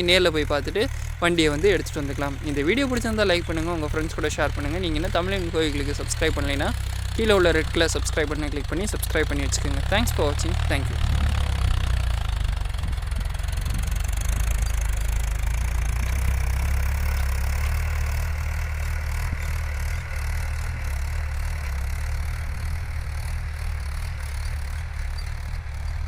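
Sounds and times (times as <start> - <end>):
diesel tractor engine idling: 0.0 - 26.0.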